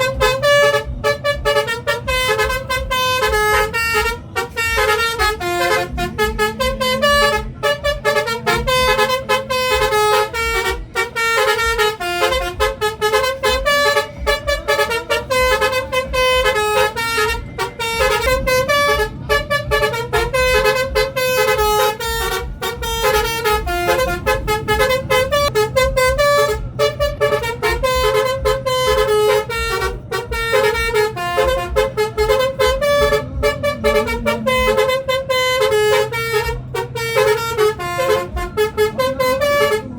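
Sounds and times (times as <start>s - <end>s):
multi-tone air horn tune: 0.0s - 39.9s.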